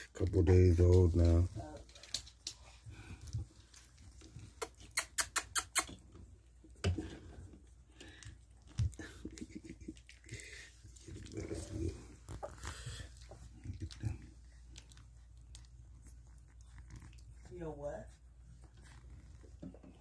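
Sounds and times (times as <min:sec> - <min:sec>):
puppies pattering on blanket: 0:00.0 - 0:20.0.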